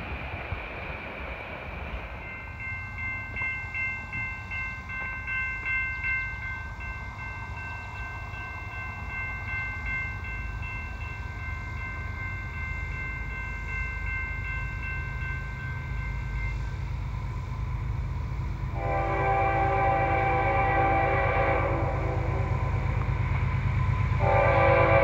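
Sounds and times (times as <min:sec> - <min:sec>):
freight train rumble: 0:00.0 - 0:25.0.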